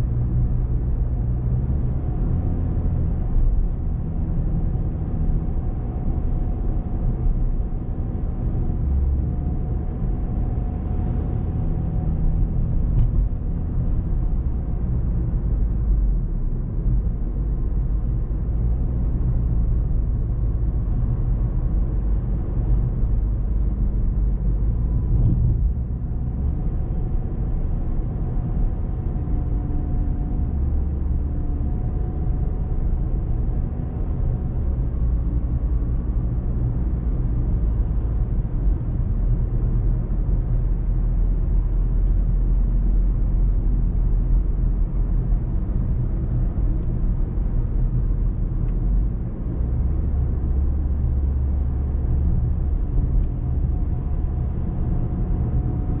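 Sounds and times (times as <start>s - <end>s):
car engine and road noise rumble: 0.0s - 56.0s.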